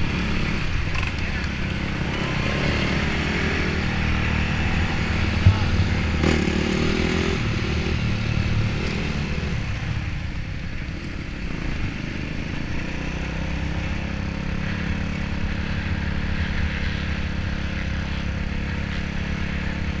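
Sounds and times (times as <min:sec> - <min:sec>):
dirt bike engine at low revs: 0:00.0 - 0:20.0.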